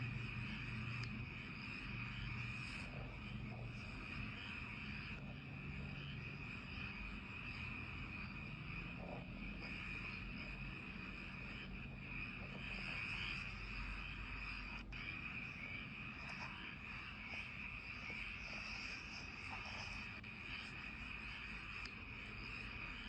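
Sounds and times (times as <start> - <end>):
frogs calling: 0.0 - 23.0
insects trilling: 0.0 - 23.0.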